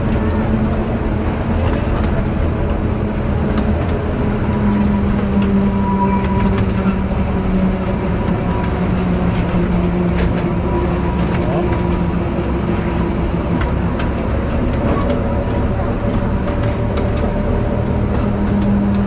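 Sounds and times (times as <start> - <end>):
train engine and wheels: 0.0 - 19.0.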